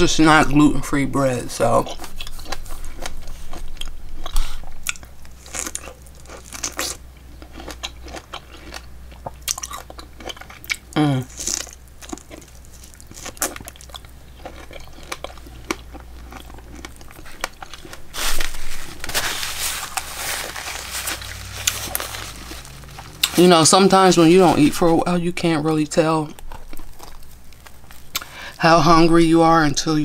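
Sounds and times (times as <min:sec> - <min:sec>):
person chewing food: 0:01.8 - 0:23.6, 0:26.2 - 0:28.6.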